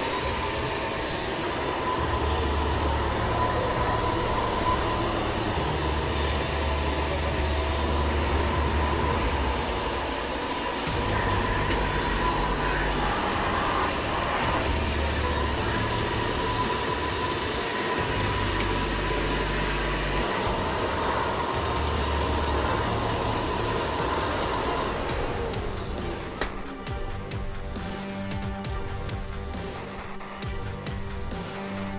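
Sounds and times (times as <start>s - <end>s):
vacuum cleaner running: 0.0s - 28.8s.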